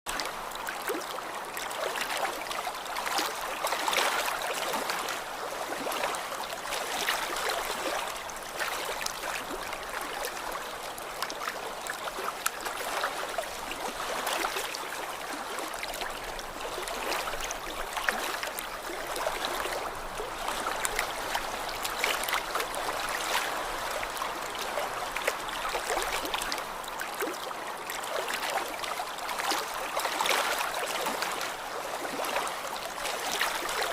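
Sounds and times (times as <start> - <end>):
lake waves lapping: 0.1 - 33.9.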